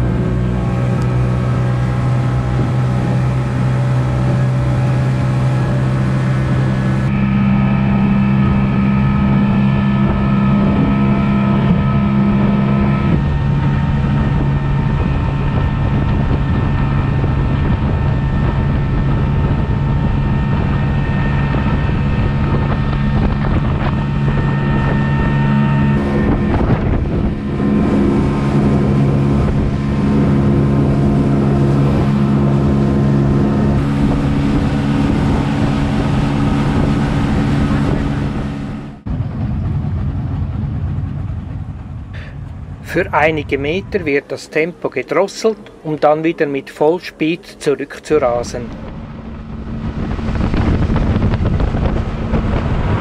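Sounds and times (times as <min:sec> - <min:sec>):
rushing water: 0:00.0 - 0:39.1, 0:42.2 - 0:53.0
wind buffeting microphone: 0:00.0 - 0:46.1, 0:47.5 - 0:53.0
outboard motor drone: 0:00.0 - 0:53.0.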